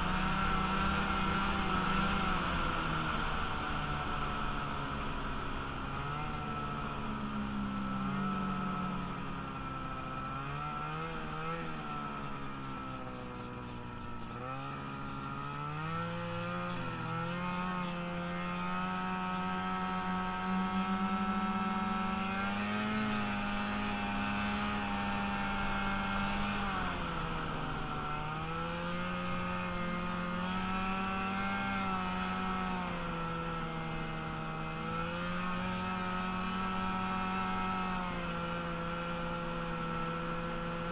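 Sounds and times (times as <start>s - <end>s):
small vehicle engine running: 0.0s - 40.9s.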